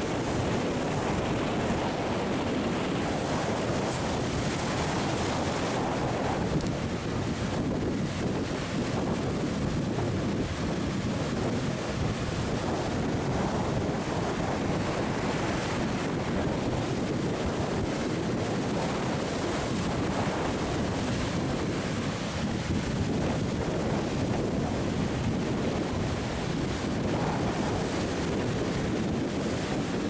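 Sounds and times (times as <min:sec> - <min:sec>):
surf breaking against rocks: 0:00.0 - 0:30.0
wind buffeting microphone: 0:00.0 - 0:30.0.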